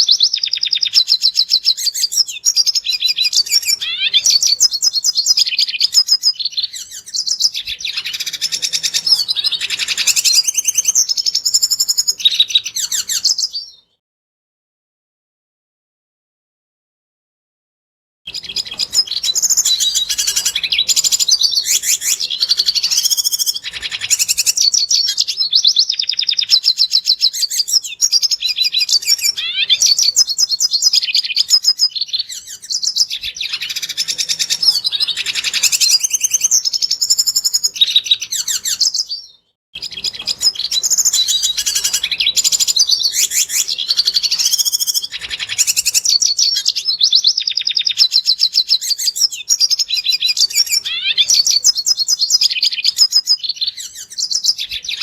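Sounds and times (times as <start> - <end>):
siskin twittering and trills: 0.0 - 13.8, 18.3 - 55.0.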